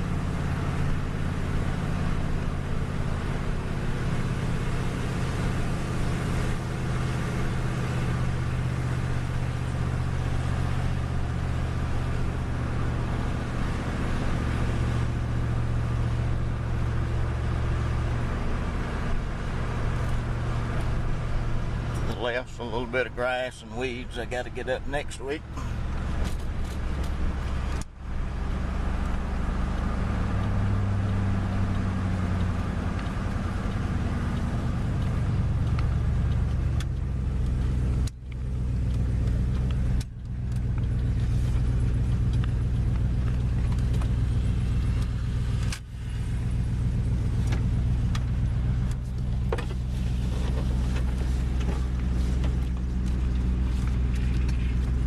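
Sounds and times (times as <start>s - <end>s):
pickup truck engine running: 0.0s - 55.0s.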